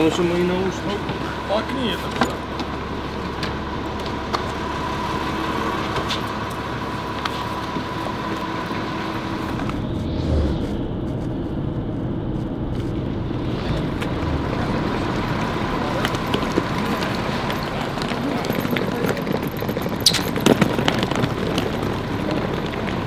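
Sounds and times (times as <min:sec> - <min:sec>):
bus engine and road noise: 0:00.0 - 0:23.0
constant hum: 0:00.0 - 0:23.0.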